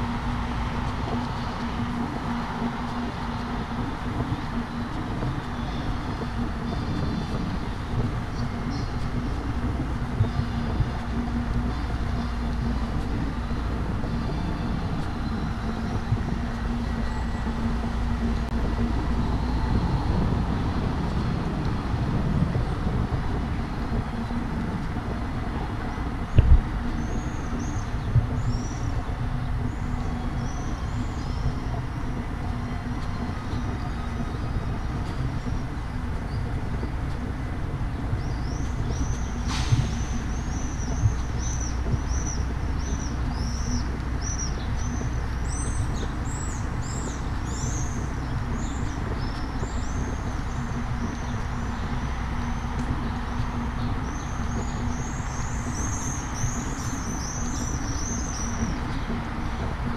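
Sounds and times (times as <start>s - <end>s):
city street traffic rumble: 0.0s - 59.9s
small birds chirping: 3.0s - 21.4s, 25.2s - 59.9s.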